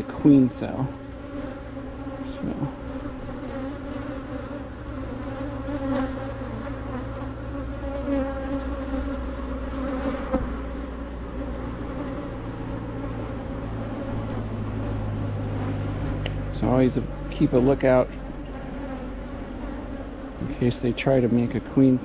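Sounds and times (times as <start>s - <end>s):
bees flying past microphone: 0.0s - 22.0s
honey bees buzzing: 0.0s - 22.0s.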